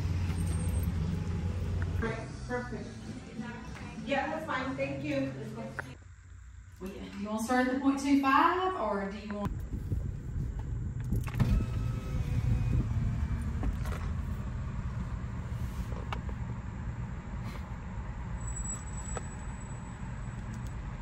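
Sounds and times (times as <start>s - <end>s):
car engine and road rumble: 0.0s - 6.7s, 9.5s - 21.0s.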